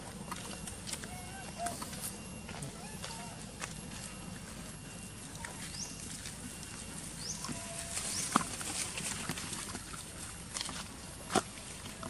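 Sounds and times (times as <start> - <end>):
monkeys rustling through leaves: 0.8 - 11.8.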